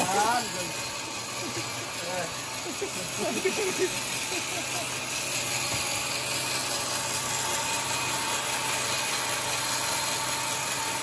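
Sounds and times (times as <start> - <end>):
circular saw cutting wood: 0.0 - 11.0.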